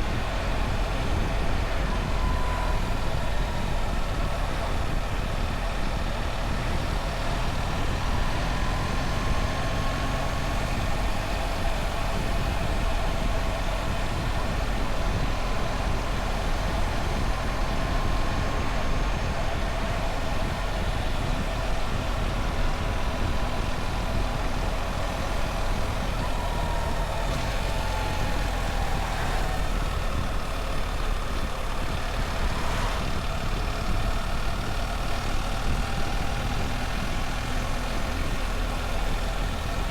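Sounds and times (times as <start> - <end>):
continuous low rumble: 0.0 - 39.9
motorcycle engine running: 0.0 - 39.9.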